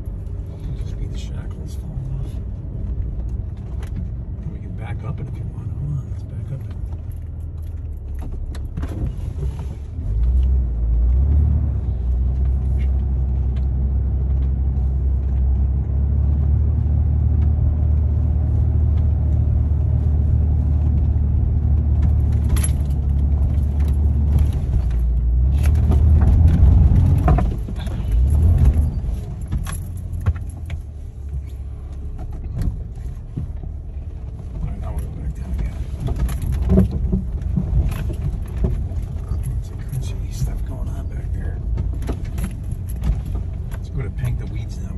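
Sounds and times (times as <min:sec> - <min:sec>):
engine and drivetrain rumble: 0:00.0 - 0:44.9.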